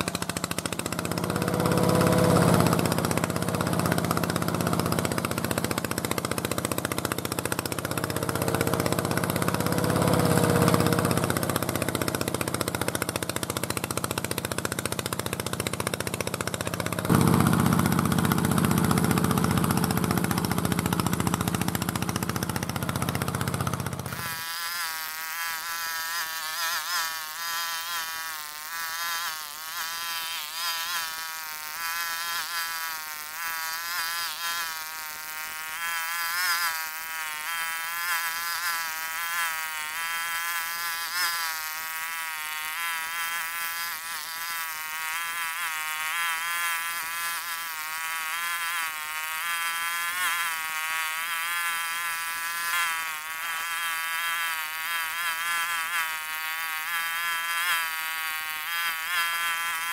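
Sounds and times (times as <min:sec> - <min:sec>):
mini excavator engine buzzing: 0:00.0 - 0:59.9.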